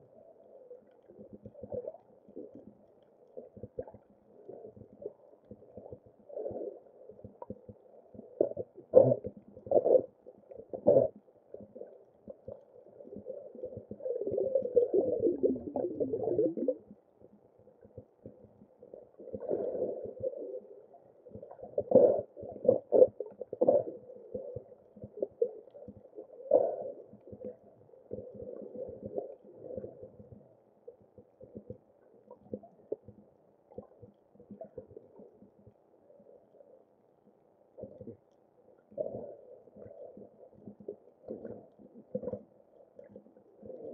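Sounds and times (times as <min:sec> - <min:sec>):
muffled underwater swishes: 0:00.0 - 0:36.9, 0:37.6 - 0:43.9.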